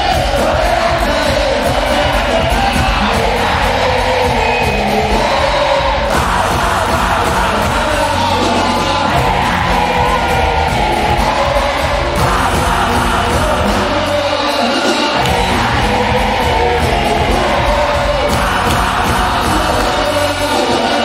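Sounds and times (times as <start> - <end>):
crowd noise: 0.0 - 21.0
live band music: 0.0 - 21.0
vocalist singing and shouting: 0.0 - 21.0.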